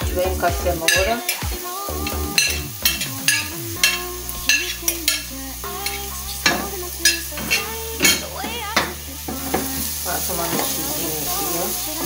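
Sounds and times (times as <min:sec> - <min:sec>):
vegetables sizzling in hot oil: 0:00.3 - 0:12.0.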